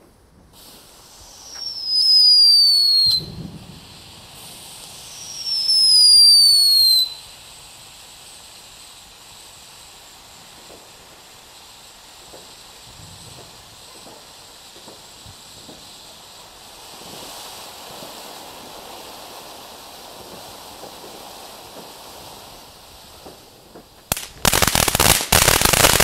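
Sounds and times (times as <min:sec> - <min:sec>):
firework spark hiss: 0:00.4 - 0:26.0
firework whistles: 0:00.5 - 0:26.0.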